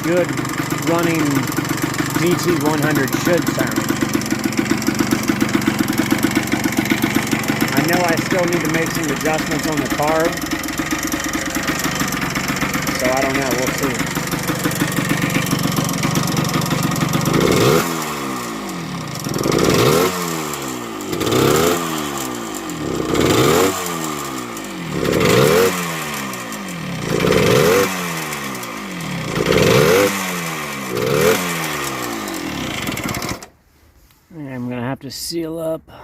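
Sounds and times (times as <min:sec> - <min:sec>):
two-stroke engine idling and revving: 0:00.0 - 0:33.5.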